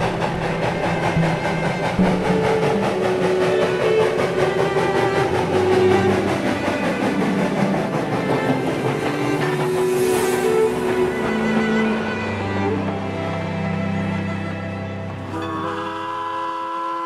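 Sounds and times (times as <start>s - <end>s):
held cello notes: 0.0s - 17.0s
steam locomotive running past: 0.0s - 17.0s.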